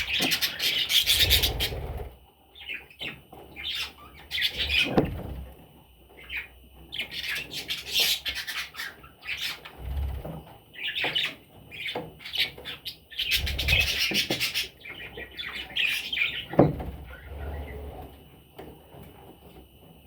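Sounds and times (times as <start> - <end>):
budgerigars chattering and squawking: 0.0 - 5.1, 6.2 - 18.0.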